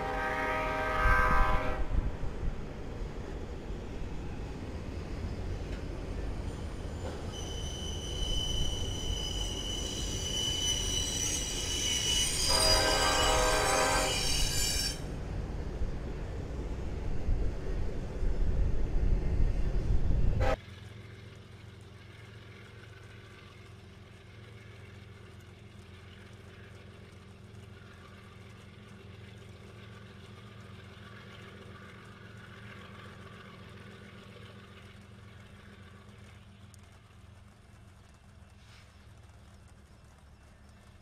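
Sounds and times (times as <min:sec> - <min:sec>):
diesel locomotive low hum: 0:00.0 - 0:41.0
diesel locomotive rumble: 0:00.0 - 0:41.0.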